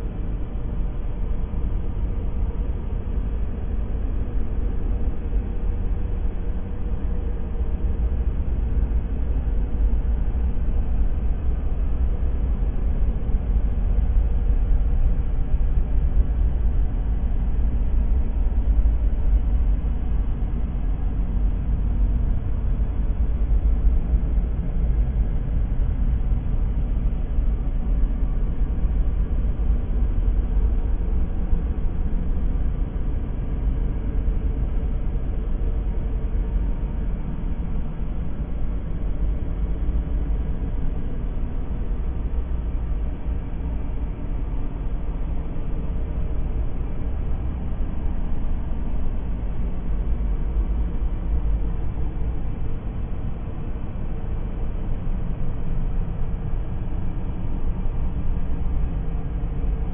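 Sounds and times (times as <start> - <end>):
low room rumble: 0.0 - 59.9.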